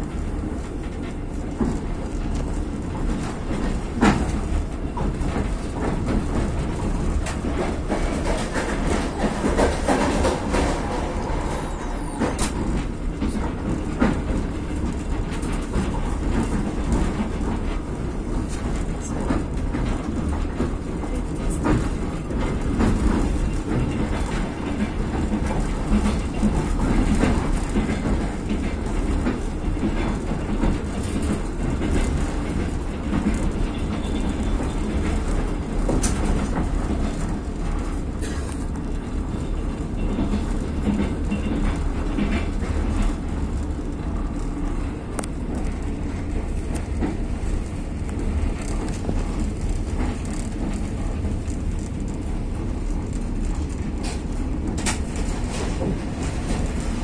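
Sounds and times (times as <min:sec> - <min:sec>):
train rolling rumble: 0:00.0 - 0:57.0
wheels clacking over rail joints: 0:00.0 - 0:57.0.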